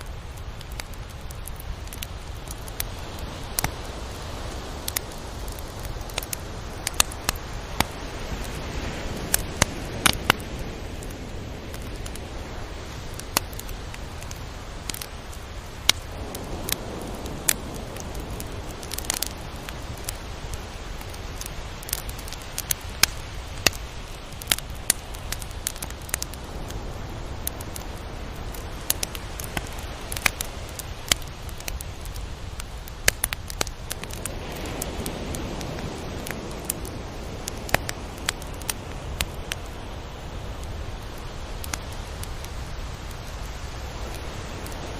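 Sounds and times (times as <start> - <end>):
surf washing: 0.0 - 44.9
sharp crackling clicks: 0.1 - 3.9, 4.8 - 8.6, 9.2 - 11.1, 13.1 - 26.8, 27.5 - 39.7, 40.6 - 43.4.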